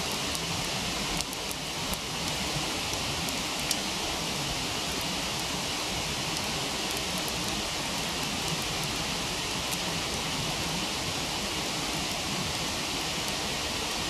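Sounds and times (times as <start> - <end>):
wood fire crackles: 0.0 - 14.0.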